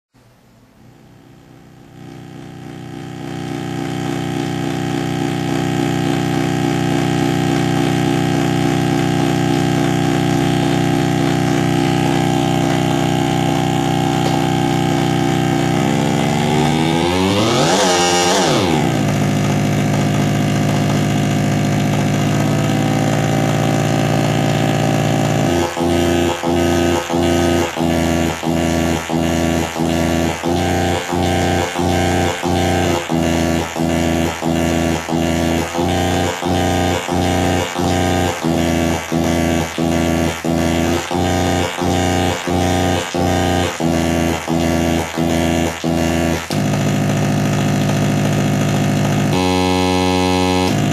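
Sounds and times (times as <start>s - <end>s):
electronic drone: 1.0s - 50.9s.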